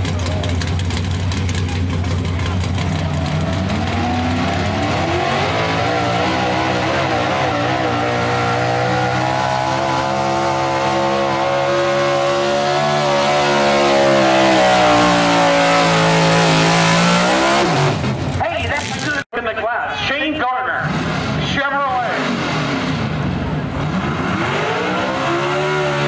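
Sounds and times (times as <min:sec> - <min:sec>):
pickup engine at full throttle: 0:00.0 - 0:19.2, 0:20.8 - 0:26.0.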